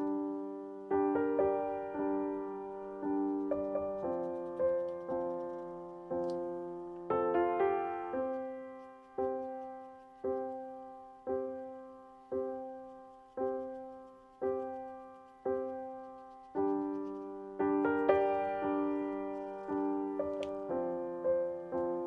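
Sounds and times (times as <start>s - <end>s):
soft piano chords: 0.0s - 22.0s.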